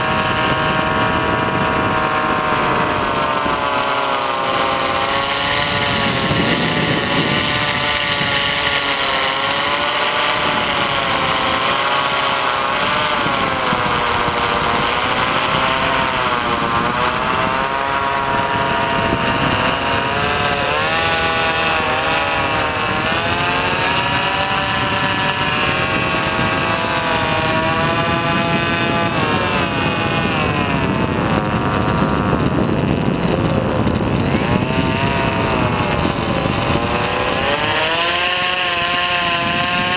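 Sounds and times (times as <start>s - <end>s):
propeller motor whine: 0.0s - 39.9s.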